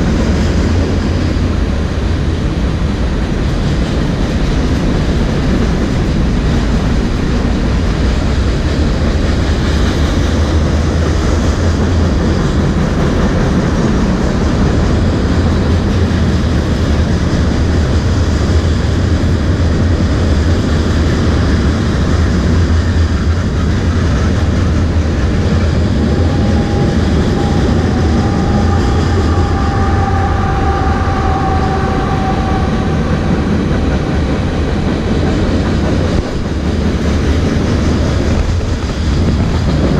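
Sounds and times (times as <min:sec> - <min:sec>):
train rumbling and clattering: 0:00.0 - 0:39.9.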